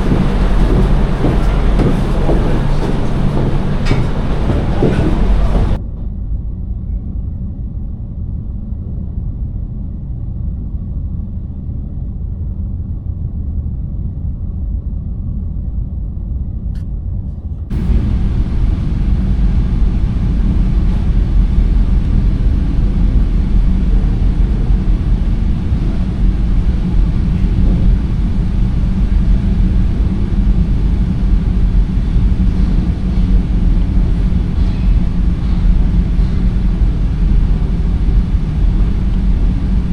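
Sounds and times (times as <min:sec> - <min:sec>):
ferry engine low rumble: 0:00.0 - 0:39.9.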